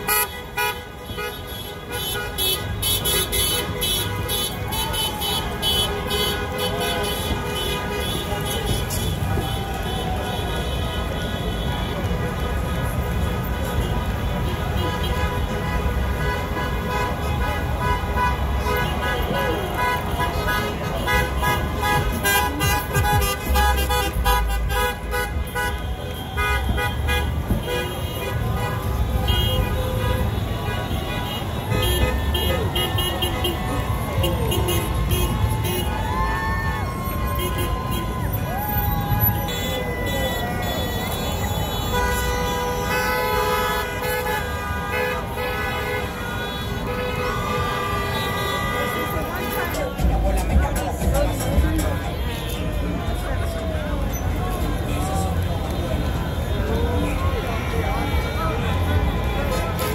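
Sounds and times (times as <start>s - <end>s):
car horns honking: 0.0s - 35.9s, 39.2s - 53.2s, 55.4s - 59.9s
street noise: 0.0s - 59.9s
traffic rumble: 0.0s - 59.9s.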